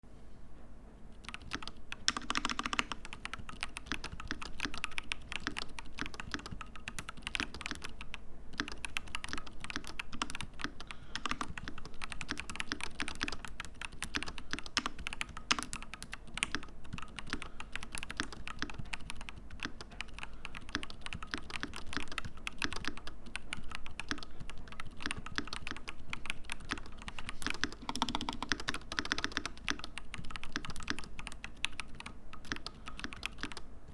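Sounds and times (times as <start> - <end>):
mechanical keyboard typing: 1.1 - 33.9.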